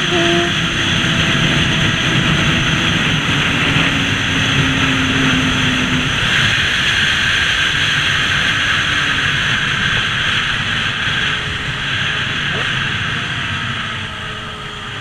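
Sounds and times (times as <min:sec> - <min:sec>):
motorbike engine running: 0:00.0 - 0:15.0
wind rushing over microphone: 0:00.0 - 0:15.0.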